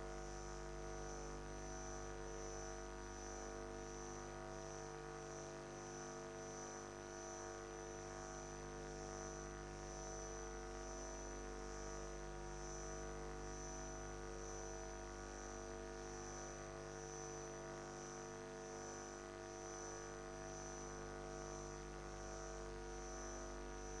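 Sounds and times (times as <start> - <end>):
electrical hum and buzz: 0.0 - 24.0
faint pulsing high whine: 0.0 - 24.0.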